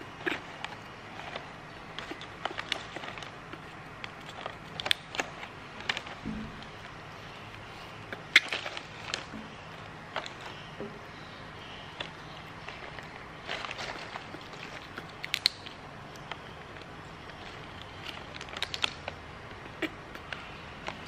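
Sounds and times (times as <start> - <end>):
plastic snack packet crinkling: 0.0 - 10.7, 11.9 - 21.0.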